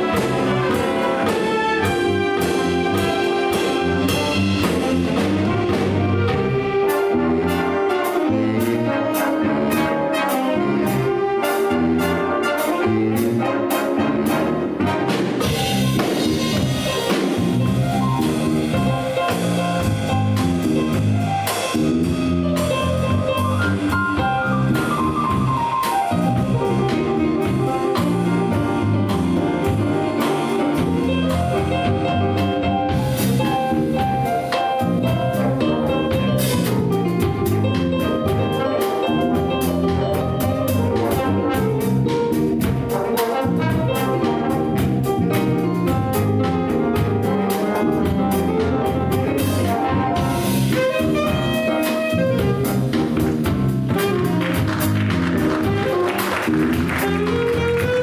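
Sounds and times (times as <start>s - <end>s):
big band playing jazz: 0.0s - 58.0s.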